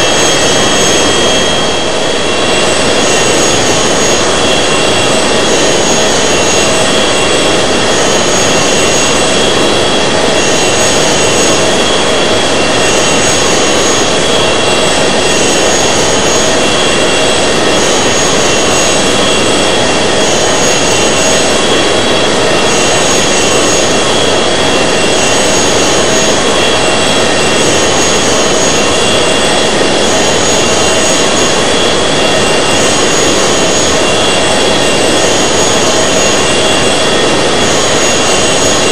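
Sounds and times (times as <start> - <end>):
jet engine and airflow noise: 0.0 - 38.9
thin steady whining tones: 0.0 - 38.9.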